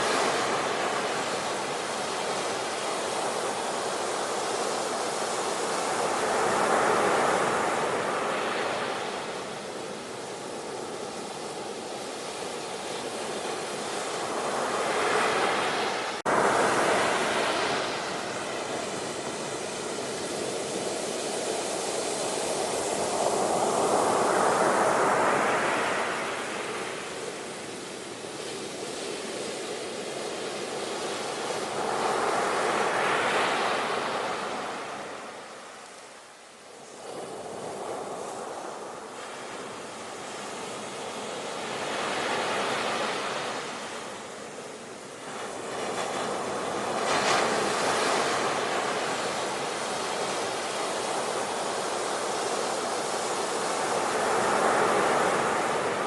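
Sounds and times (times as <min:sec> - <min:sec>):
ocean waves breaking: 0:00.0 - 0:35.9, 0:36.7 - 0:56.0.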